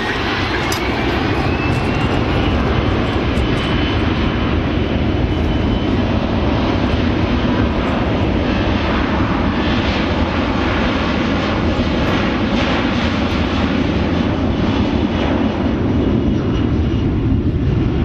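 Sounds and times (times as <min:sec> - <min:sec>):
jet engine whine rising: 0:00.0 - 0:18.0
jet engines roaring: 0:00.0 - 0:18.0.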